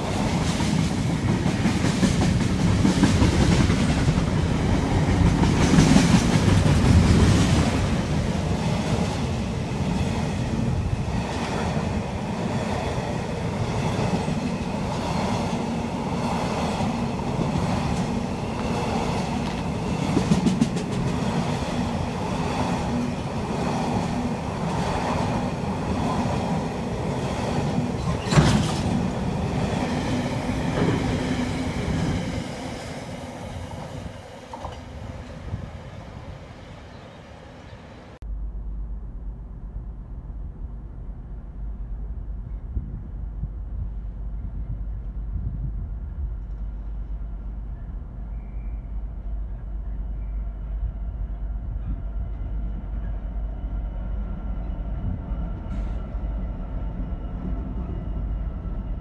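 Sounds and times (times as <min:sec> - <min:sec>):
train wheels rumbling on rails: 0:00.0 - 0:38.2, 0:39.3 - 0:59.0.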